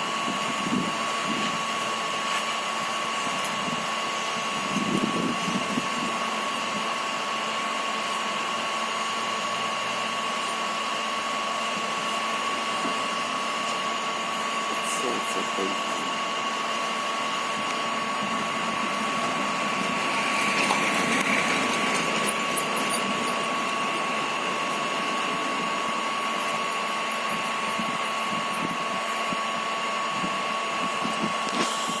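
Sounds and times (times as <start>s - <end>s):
electric motor whirring with whine: 0.0s - 32.0s.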